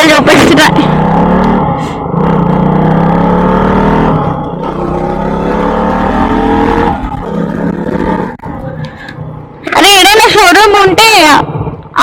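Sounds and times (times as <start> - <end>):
motorcycle engine accelerating: 0.0 - 10.1.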